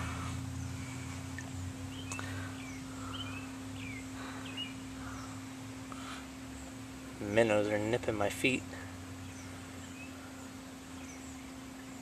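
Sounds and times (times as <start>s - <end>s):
faint bird chirps: 0.0s - 6.8s, 8.8s - 12.0s
steady low hum: 0.0s - 12.0s.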